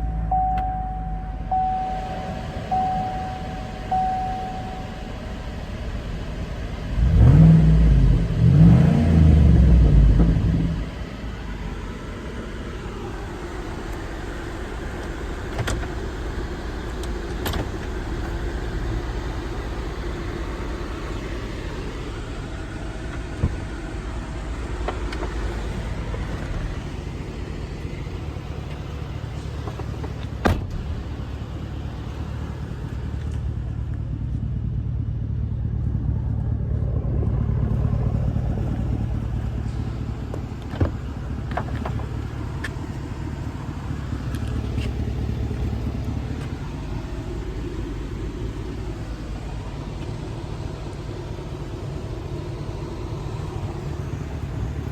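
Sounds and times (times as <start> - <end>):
pickup truck engine rumble: 0.0 - 54.9.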